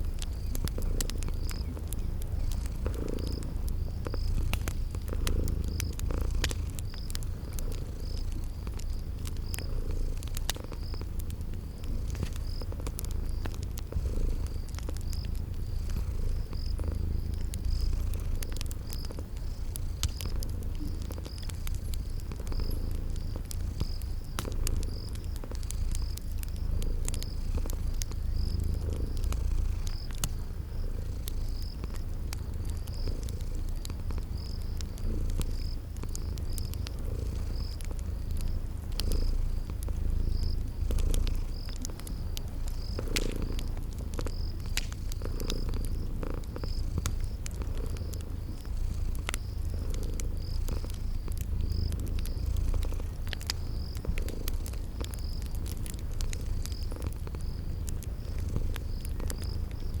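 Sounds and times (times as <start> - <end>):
cat purring: 0.0 - 60.0
cricket chirping: 0.0 - 60.0
wood fire crackling: 0.0 - 60.0.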